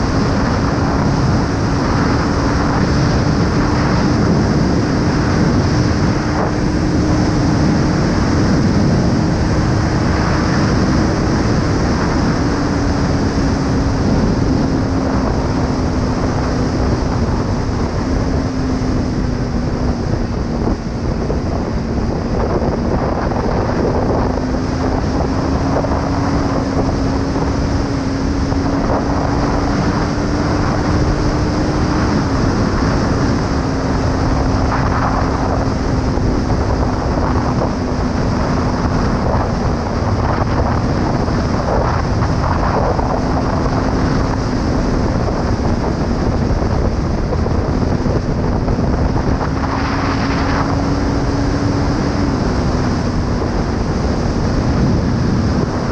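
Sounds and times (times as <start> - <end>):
motorcycle engine at road speed: 0.0 - 55.9
wind noise on microphone: 0.0 - 55.9.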